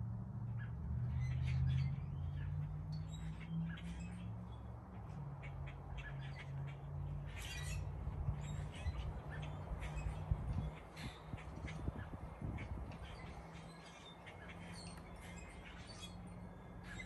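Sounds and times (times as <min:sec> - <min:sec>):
birds chirping: 0:00.6 - 0:17.0.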